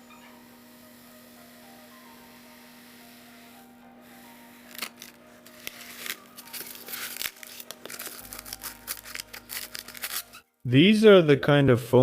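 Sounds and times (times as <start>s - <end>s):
polystyrene foam crackling and squeaking: 0.1s - 10.6s.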